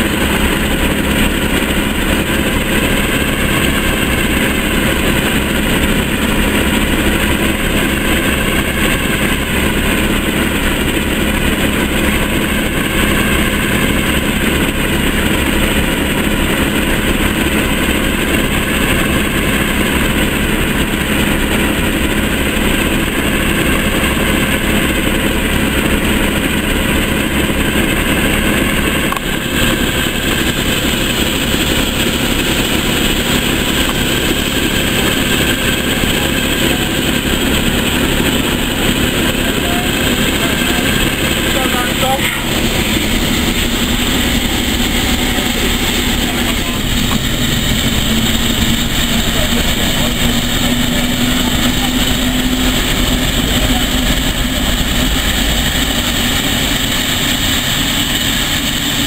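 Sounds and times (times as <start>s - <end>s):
diesel locomotive engine idling: 0.0s - 59.0s.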